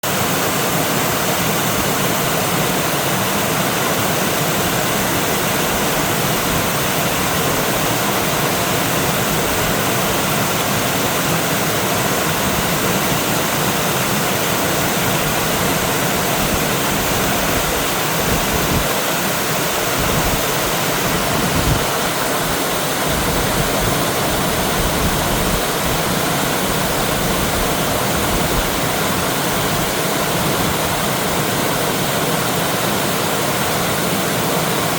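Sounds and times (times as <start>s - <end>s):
mountain stream rushing over rocks: 0.0s - 34.9s.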